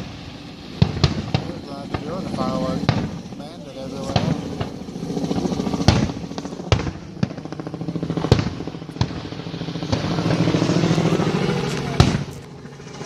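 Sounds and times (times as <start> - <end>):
fireworks banging: 0.0 - 12.8
steady low drone: 0.0 - 13.0.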